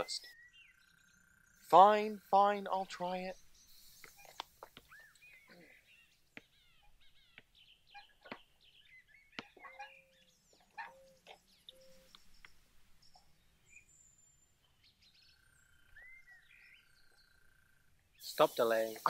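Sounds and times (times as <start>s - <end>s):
birds chirping and twittering: 0.0s - 19.0s.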